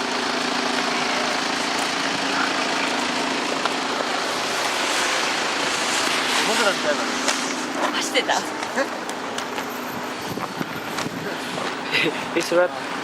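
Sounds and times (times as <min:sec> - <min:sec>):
engine hum: 0:00.0 - 0:13.0
road noise hiss: 0:00.0 - 0:13.0.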